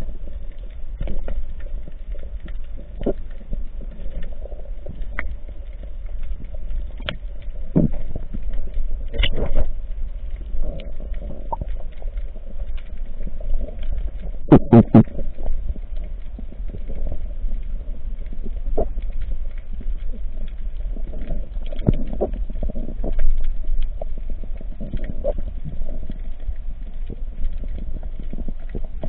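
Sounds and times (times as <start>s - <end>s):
sharp clicks and crackles: 0.0s - 29.0s
underwater low rumble: 0.0s - 29.0s.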